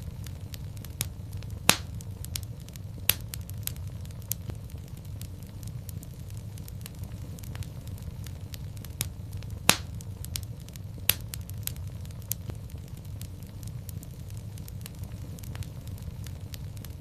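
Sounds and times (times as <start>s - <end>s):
loud fire pops: 0.0s - 17.0s
wood fire crackling: 0.0s - 17.0s.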